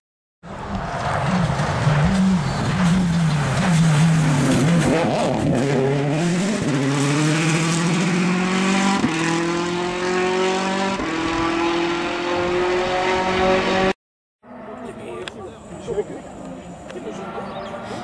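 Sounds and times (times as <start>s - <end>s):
rally car engine revving: 0.5s - 18.0s.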